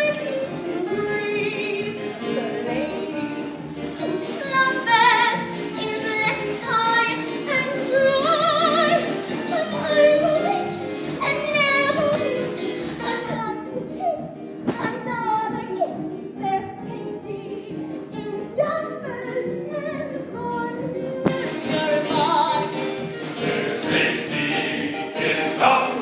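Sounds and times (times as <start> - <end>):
woman singing with vibrato: 0.0 - 22.9
musical accompaniment: 0.0 - 26.0.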